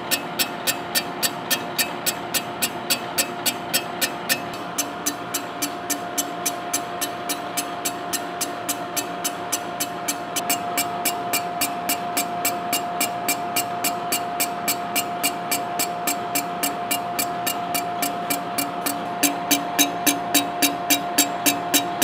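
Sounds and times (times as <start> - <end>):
tool bit ticking on iron: 0.0 - 22.0.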